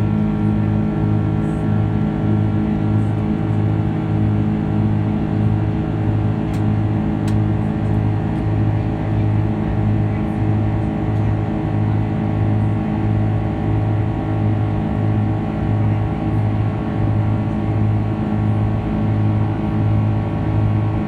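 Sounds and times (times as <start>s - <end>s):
jet engine cabin drone: 0.0s - 21.0s.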